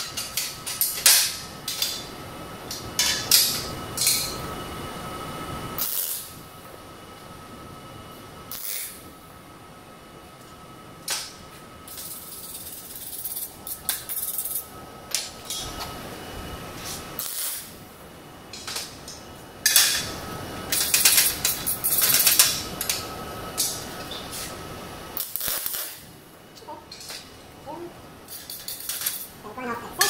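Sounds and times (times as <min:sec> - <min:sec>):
welder arc crackling and hissing: 0:00.0 - 0:30.0.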